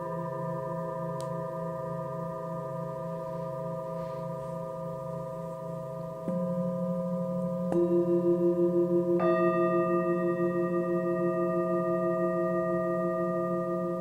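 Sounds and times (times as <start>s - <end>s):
sound bowls ringing: 0.0s - 14.0s.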